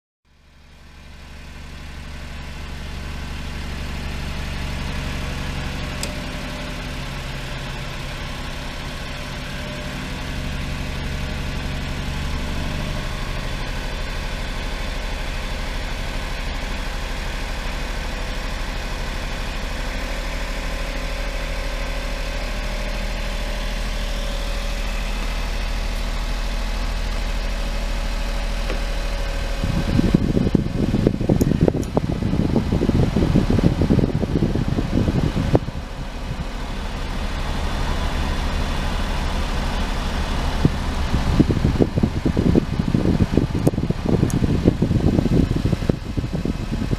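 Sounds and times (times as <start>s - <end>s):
van engine idling: 0.3s - 46.9s.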